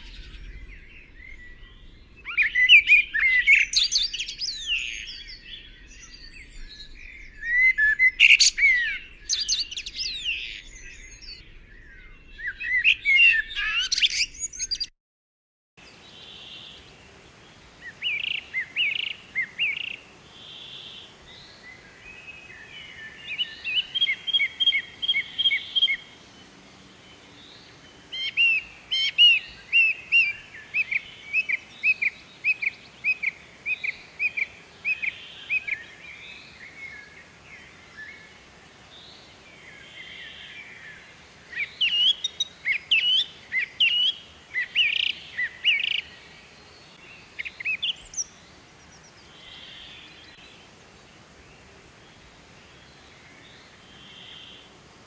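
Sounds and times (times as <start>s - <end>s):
songbirds chirping: 0.0s - 14.9s, 15.8s - 55.0s.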